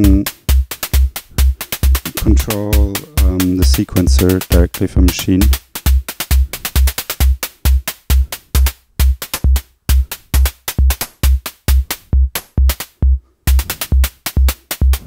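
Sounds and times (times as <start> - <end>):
electronic hi-hat ticking: 0.0 - 15.0
electronic kick drum thumping: 0.0 - 15.0.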